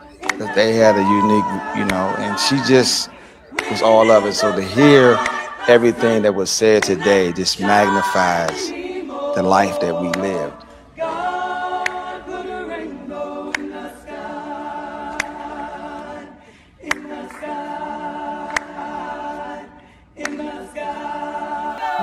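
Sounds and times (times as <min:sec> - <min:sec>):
a cappella choir singing: 0:00.0 - 0:22.0.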